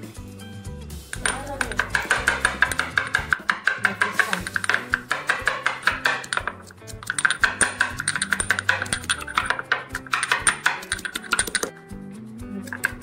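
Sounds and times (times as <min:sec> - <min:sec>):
pestle pounding in stone mortar: 0:01.2 - 0:11.7, 0:12.7 - 0:13.0.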